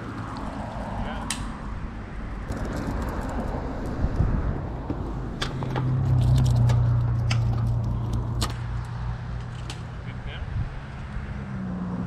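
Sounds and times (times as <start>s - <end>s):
vehicle passing hum: 0.0s - 12.0s.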